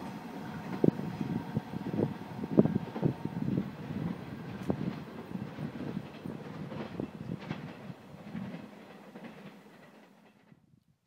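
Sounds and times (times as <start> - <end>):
train wheels clattering over rails: 0.0 - 10.6.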